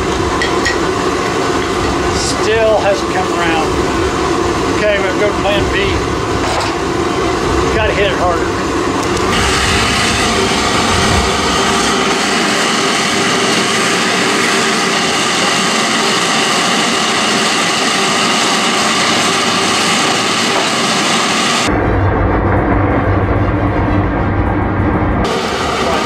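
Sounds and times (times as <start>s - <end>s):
gas forge burner roaring: 0.0s - 26.0s.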